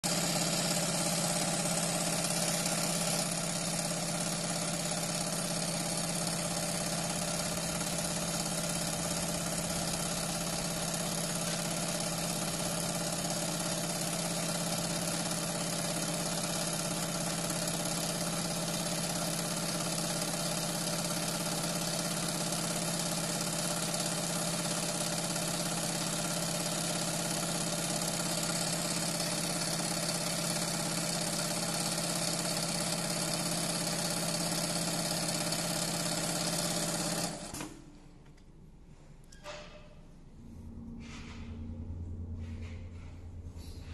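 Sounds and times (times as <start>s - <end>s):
sewing machine humming: 0.0s - 38.0s.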